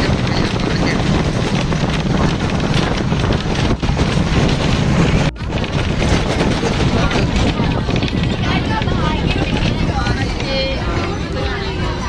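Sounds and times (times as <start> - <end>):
bus running noise: 0.0 - 12.0
wind buffeting microphone: 0.0 - 12.0.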